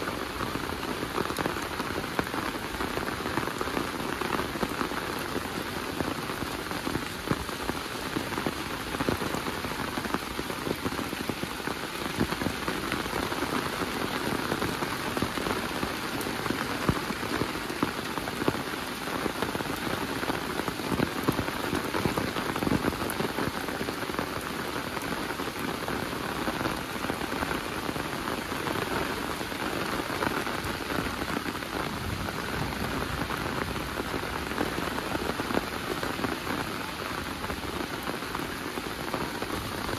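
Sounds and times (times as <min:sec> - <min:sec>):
raindrops ticking on surfaces: 0:00.0 - 0:39.9
steady rain hissing: 0:00.0 - 0:39.9.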